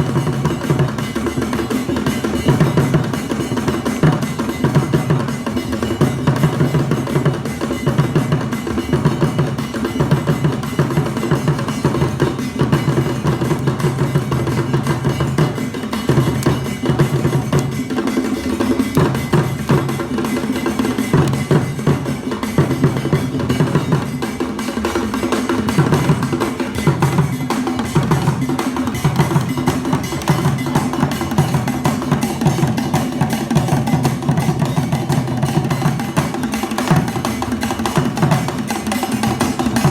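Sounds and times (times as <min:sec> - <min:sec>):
drum ensemble playing: 0:00.0 - 0:39.9.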